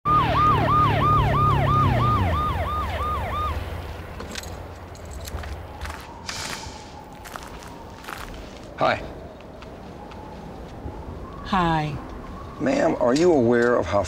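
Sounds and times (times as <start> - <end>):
motorcycle siren yelping: 0.1 - 14.0.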